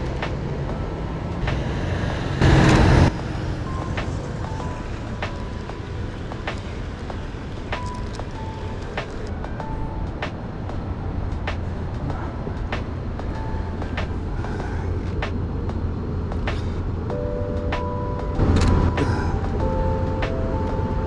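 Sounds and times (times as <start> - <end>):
low street rumble: 0.0 - 21.0.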